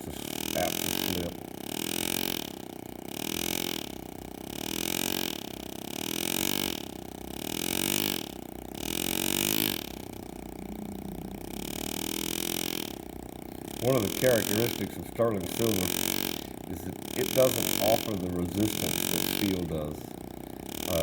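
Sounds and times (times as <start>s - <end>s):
air graver buzzing: 0.0s - 21.0s.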